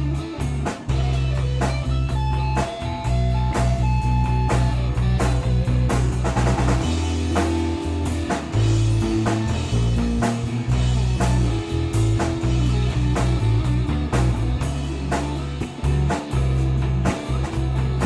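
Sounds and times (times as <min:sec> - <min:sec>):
bass line: 0:00.0 - 0:18.0
rock band playing live: 0:00.0 - 0:18.0
drum hits: 0:00.4 - 0:18.0.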